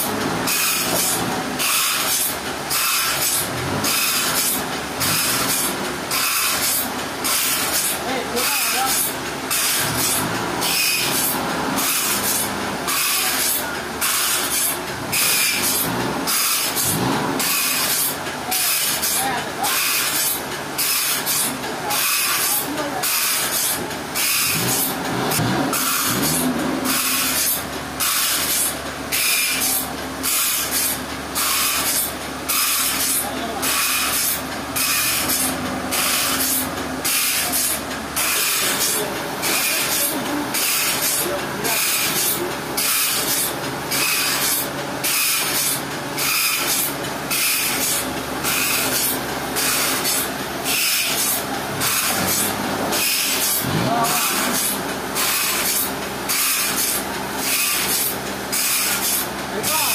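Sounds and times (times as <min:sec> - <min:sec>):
machine hum: 0:00.0 - 0:59.9
saw cutting through log: 0:00.0 - 0:59.9.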